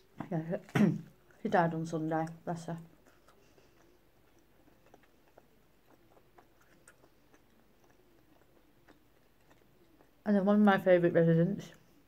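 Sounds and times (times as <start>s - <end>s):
chewing with mouth clicks: 0.0s - 11.0s.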